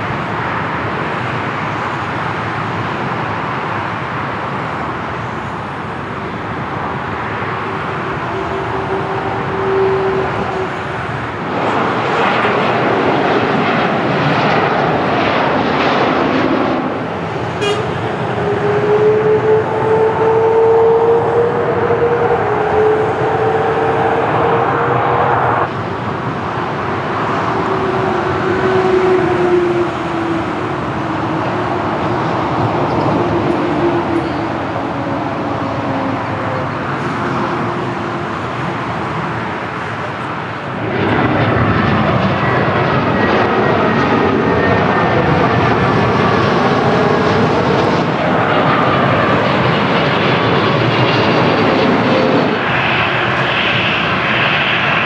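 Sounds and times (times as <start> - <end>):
jet engines humming: 0.0 - 55.0.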